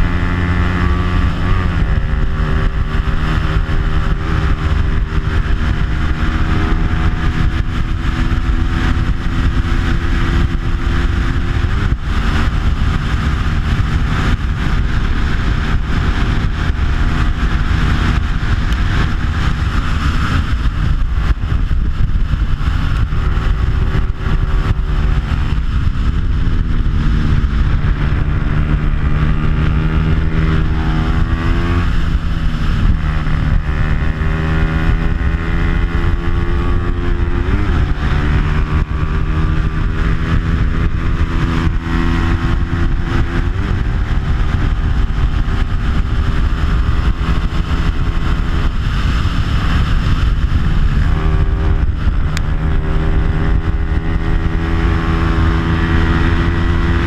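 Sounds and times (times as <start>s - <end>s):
motorcycle engine at full throttle: 0.0s - 57.0s
wind rushing: 0.0s - 57.0s.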